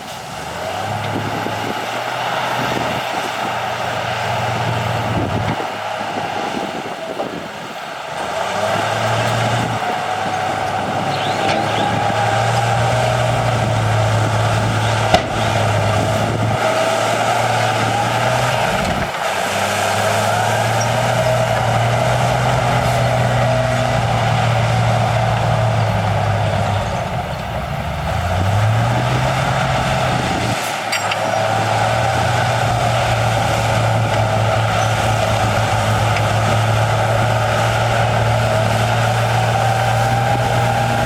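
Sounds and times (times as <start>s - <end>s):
diesel machinery engine running: 0.0s - 41.0s.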